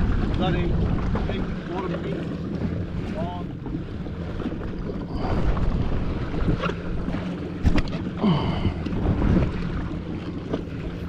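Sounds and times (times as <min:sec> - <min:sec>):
jet ski engine idling: 0:00.0 - 0:11.0
water noise: 0:00.0 - 0:11.0
wind buffeting microphone: 0:00.0 - 0:11.0.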